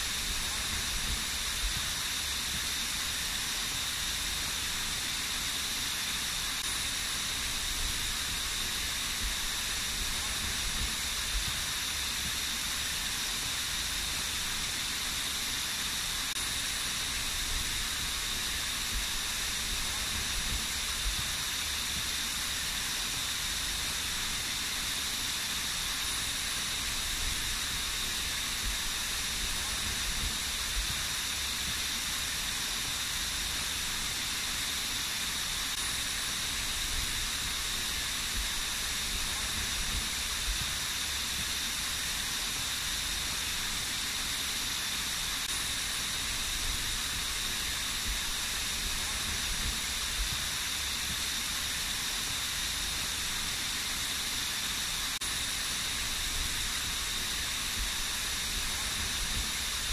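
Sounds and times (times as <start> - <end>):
low rumble of falling water: 0.0 - 59.9
small waterfall splashing: 0.0 - 59.9.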